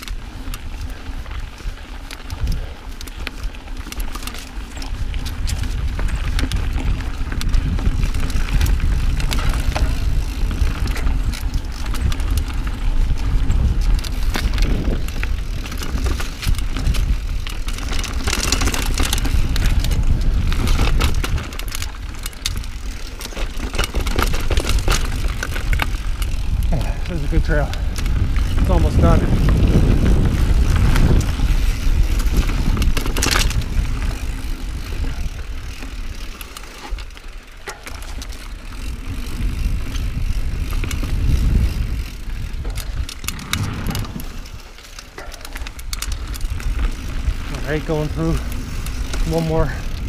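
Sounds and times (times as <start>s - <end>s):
bike clicks and rattles: 0.0s - 50.0s
wind and tyres rolling: 0.0s - 50.0s.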